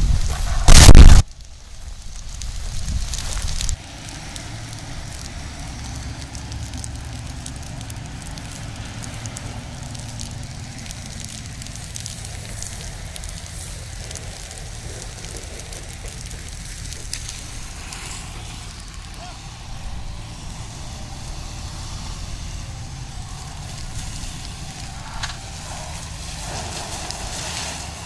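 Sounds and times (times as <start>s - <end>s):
burning stubble crackling: 0.0s - 28.0s
steady low rumble: 0.0s - 28.0s.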